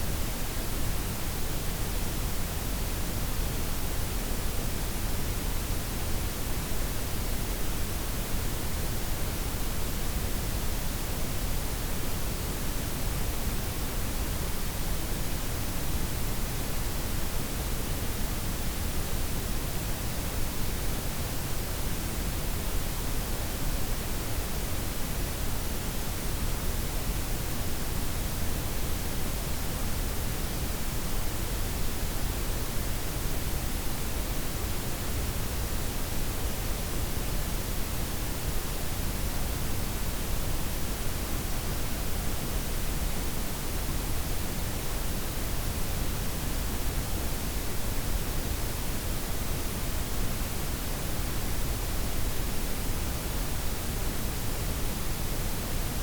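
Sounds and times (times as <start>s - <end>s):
steady noise hiss with rumble: 0.0s - 56.0s.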